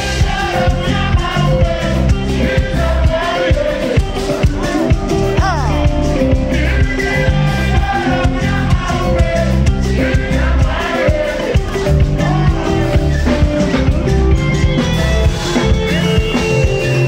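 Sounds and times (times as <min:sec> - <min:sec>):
drums: 0:00.0 - 0:17.0
electric bass: 0:00.0 - 0:17.0
live band music: 0:00.0 - 0:17.0
person singing: 0:00.2 - 0:14.2.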